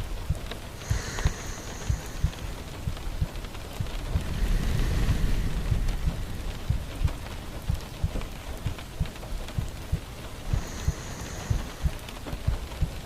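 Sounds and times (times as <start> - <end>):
low rumble of thunder: 0.0 - 13.0
steady rain falling: 0.0 - 13.0.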